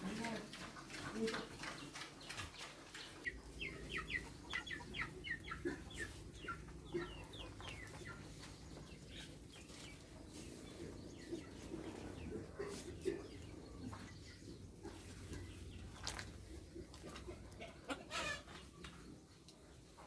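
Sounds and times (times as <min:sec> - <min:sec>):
chickens calling: 0:00.0 - 0:20.0.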